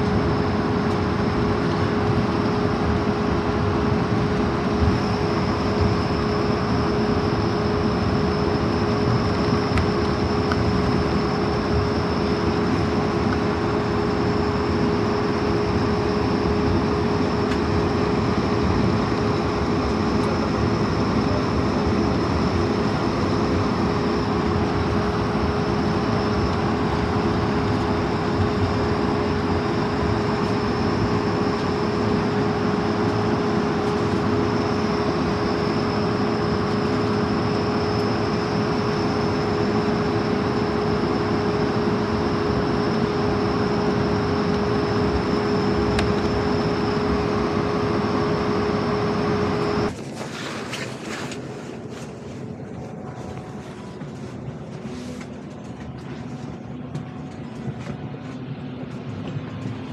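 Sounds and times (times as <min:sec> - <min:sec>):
airliner engine rumble: 0:00.0 - 0:59.9
faint high whine: 0:00.0 - 0:59.9
mid-pitched hum: 0:00.0 - 0:59.9.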